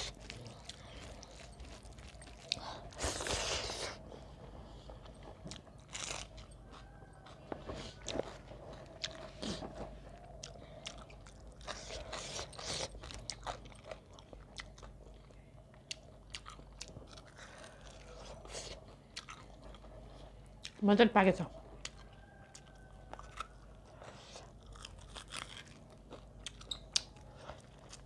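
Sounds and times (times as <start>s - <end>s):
chewing and crunching food: 0.0s - 28.0s.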